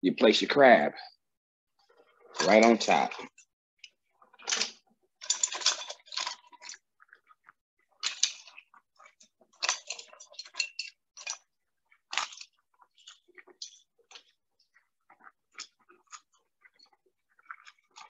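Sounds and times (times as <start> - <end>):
crab shells clattering in a pot: 2.0 - 18.0.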